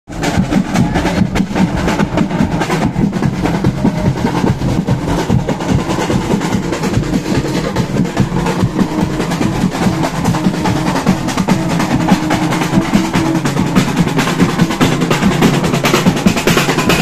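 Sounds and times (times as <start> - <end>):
marching drum band: 0.1 - 17.0.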